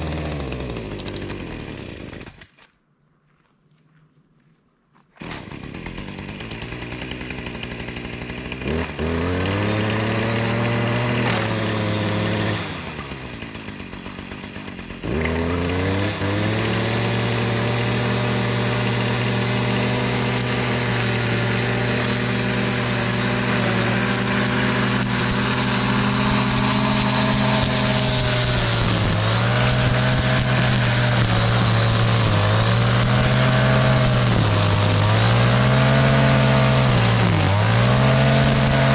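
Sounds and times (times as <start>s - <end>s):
string trimmer engine revving: 0.0s - 2.4s, 5.2s - 38.9s.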